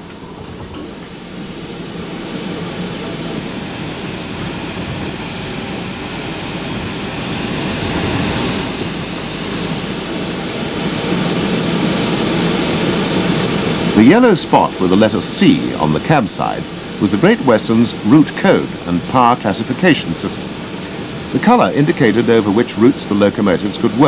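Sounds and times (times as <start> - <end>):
steam locomotive rushing noise: 0.0 - 24.0.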